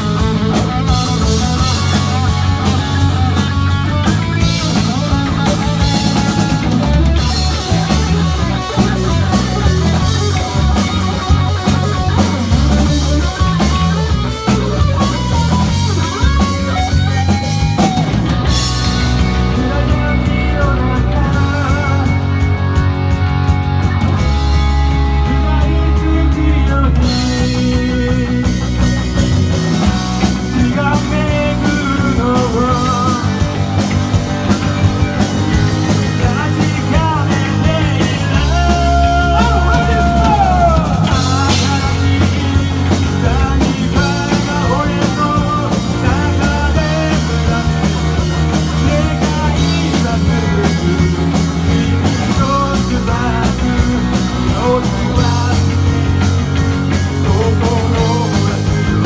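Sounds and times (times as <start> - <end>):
lead guitar with bent notes: 0.0 - 59.0
rock band playing: 0.0 - 59.0.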